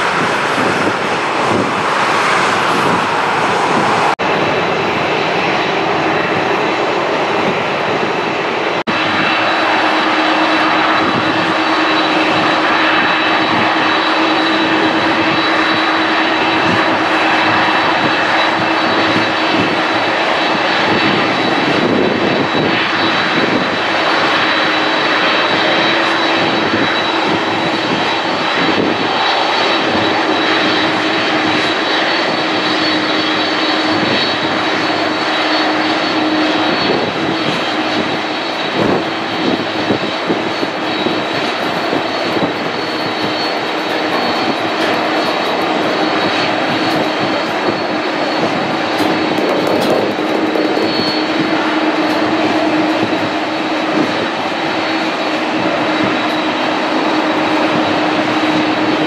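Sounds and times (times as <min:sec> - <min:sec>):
high even engine whine: 0:00.0 - 0:59.0
jet airliners taxiing: 0:00.0 - 0:59.0.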